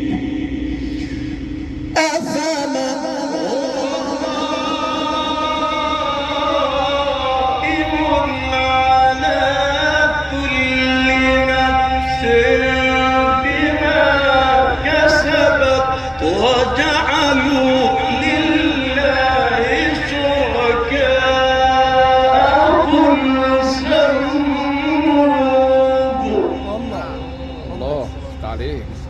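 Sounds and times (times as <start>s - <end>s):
low hum: 0.0s - 29.0s
man chanting: 2.0s - 29.0s.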